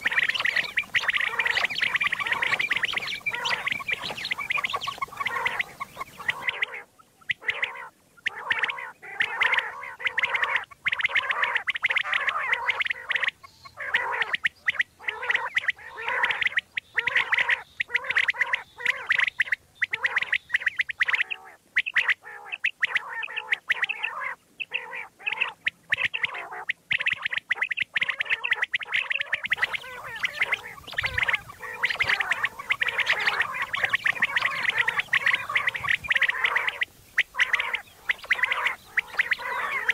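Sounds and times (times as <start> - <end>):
quail calling: 0.0 - 39.9.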